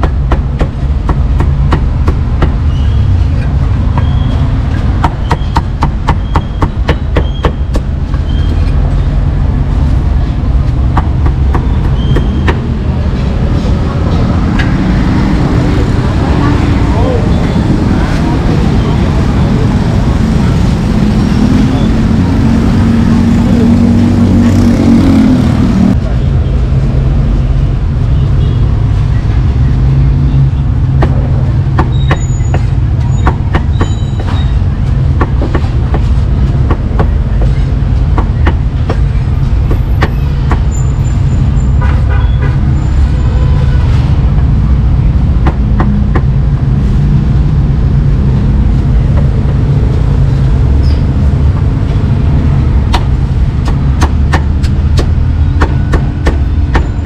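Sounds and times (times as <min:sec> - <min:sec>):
low rumble of street traffic: 0:00.0 - 0:57.0.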